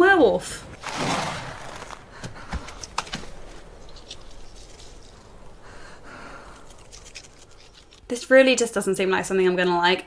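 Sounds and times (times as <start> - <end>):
faint background ambience: 0.0 - 10.0.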